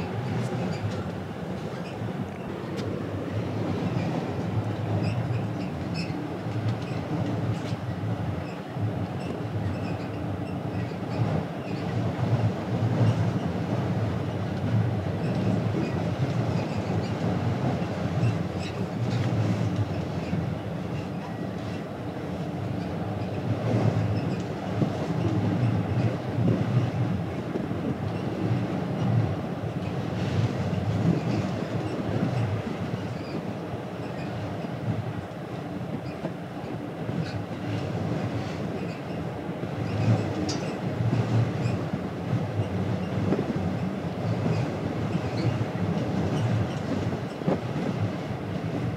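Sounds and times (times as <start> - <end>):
ship engine rumble: 0.0 - 48.9.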